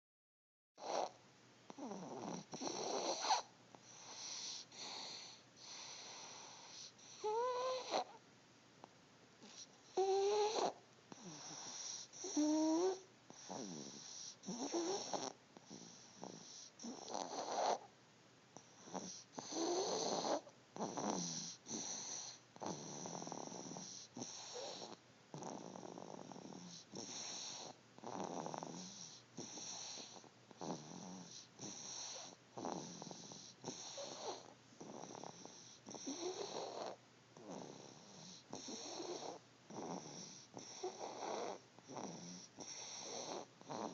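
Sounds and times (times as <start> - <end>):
baby snoring: 0.8 - 8.2, 9.4 - 17.9, 18.6 - 43.9.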